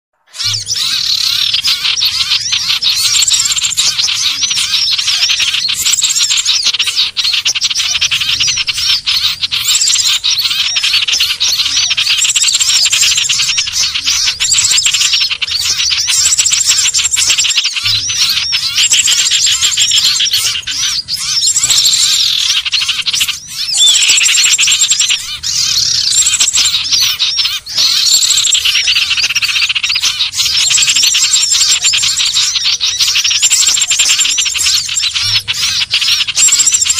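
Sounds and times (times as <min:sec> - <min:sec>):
birds chattering and trilling: 0:00.1 - 0:36.9
high thin whistled bird notes: 0:00.2 - 0:36.9.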